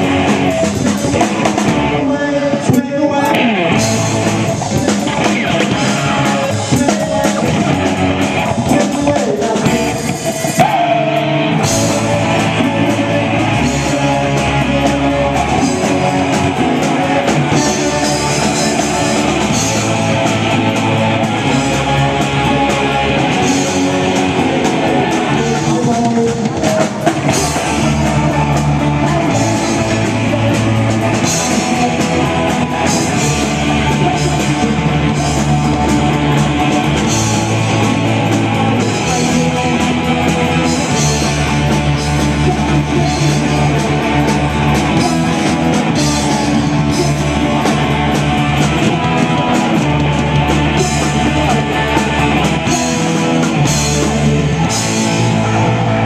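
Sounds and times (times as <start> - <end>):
bass guitar: 0.0 - 56.0
distorted electric guitar: 0.0 - 56.0
drum kit: 0.0 - 56.0
person singing: 0.0 - 56.0.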